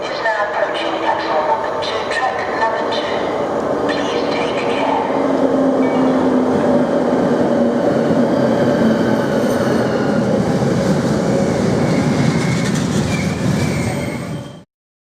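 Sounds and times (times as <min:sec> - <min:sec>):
train wheels rumbling on rails: 0:00.0 - 0:14.6.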